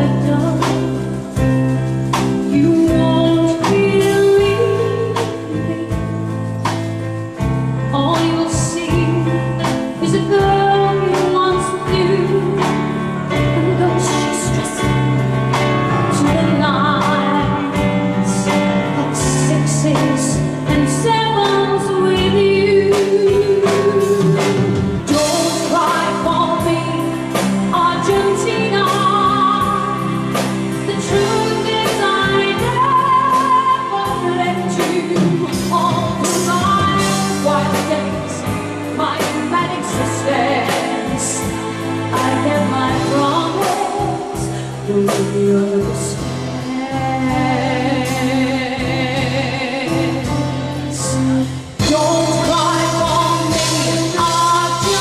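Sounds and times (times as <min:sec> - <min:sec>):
live band playing: 0:00.0 - 0:55.0
steady drum beat: 0:00.0 - 0:55.0
woman singing with vibrato: 0:02.4 - 0:06.2, 0:07.9 - 0:55.0.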